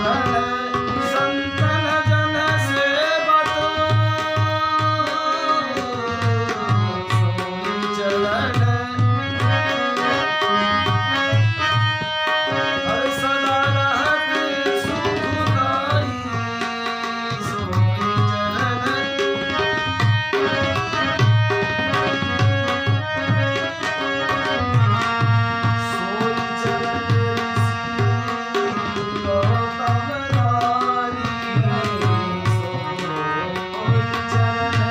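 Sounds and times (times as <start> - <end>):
held melodic accompaniment: 0.0 - 34.9
tabla playing: 0.0 - 34.9.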